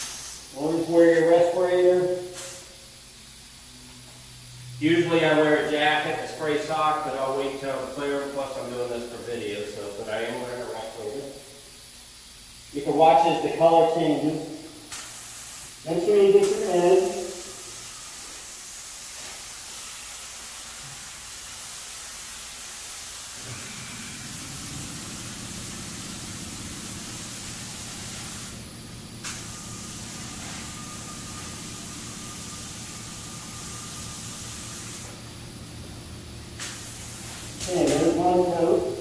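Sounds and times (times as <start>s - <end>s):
paint spray gun hissing: 0.0s - 4.4s, 5.0s - 35.6s, 36.3s - 39.0s.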